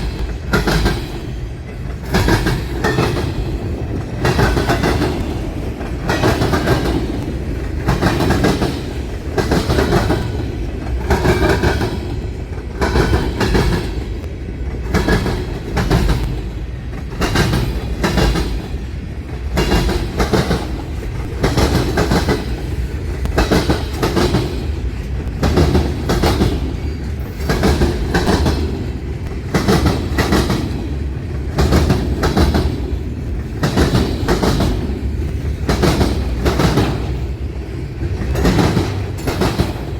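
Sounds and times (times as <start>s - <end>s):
freight train wheels clacking: 0.0s - 39.9s
train rumbling: 0.0s - 39.9s.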